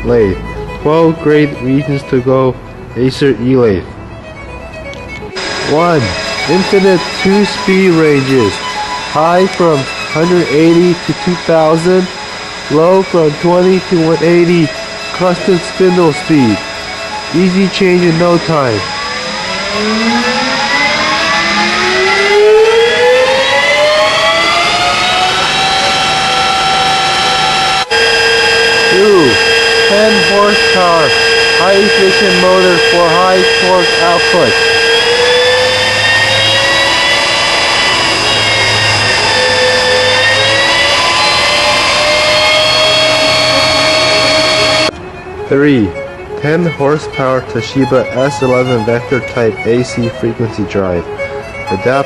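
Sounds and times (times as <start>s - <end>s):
motor whine rising in pitch: 0.0s - 3.0s, 3.7s - 52.0s.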